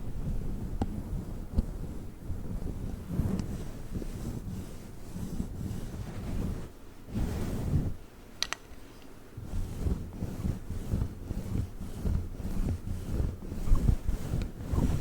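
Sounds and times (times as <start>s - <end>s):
microphone cover rustling: 2.4s - 15.0s.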